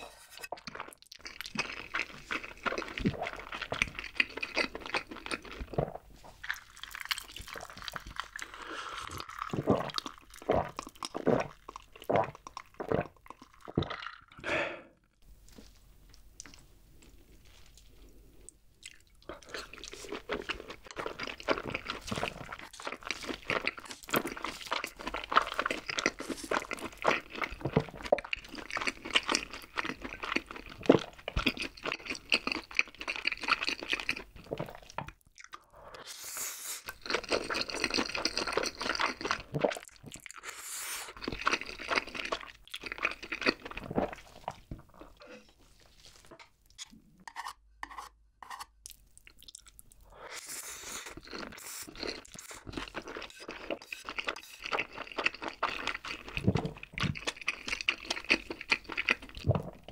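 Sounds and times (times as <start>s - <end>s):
chewing and slurping noodles: 0.0s - 14.4s, 15.6s - 46.4s, 48.9s - 59.9s.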